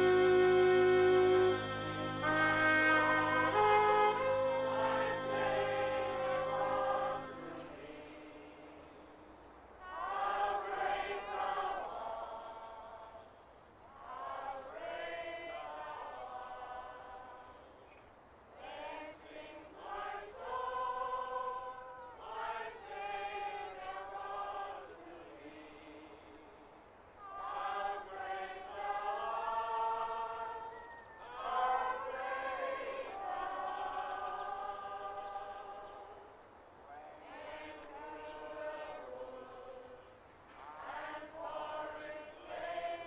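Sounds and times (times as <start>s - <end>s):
choir singing a hymn: 0.0s - 17.9s, 18.5s - 43.0s.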